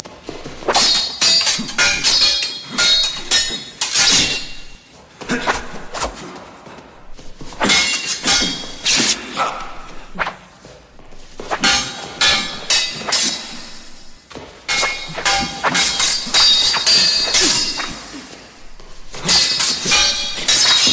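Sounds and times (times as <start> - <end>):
metal swords clashing: 0.3 - 6.4, 7.0 - 20.9.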